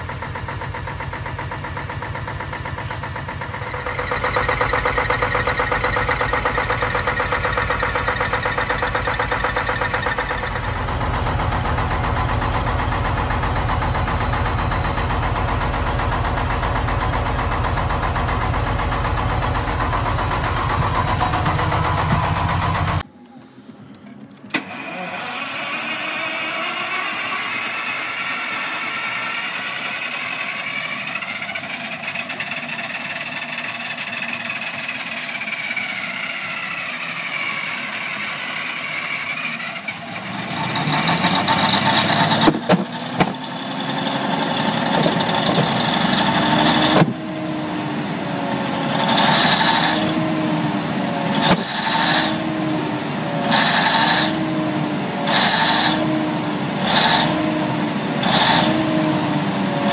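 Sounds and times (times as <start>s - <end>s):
diesel generator engine starting: 0.0s - 59.9s.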